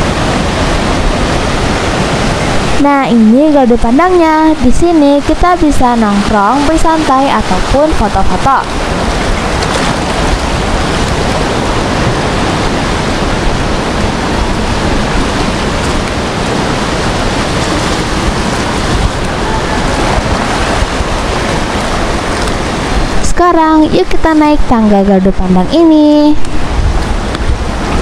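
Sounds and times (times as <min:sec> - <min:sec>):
sea surf breaking on rocks: 0:00.0 - 0:28.0
wind on microphone: 0:00.0 - 0:28.0.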